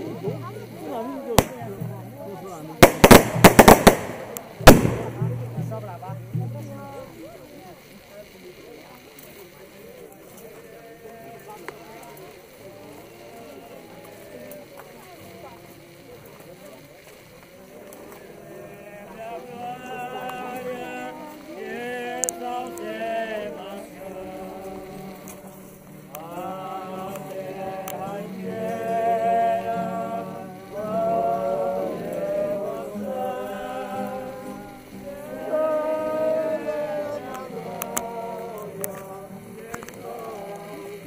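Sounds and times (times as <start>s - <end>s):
crowd singing a hymn: 0.0s - 41.0s.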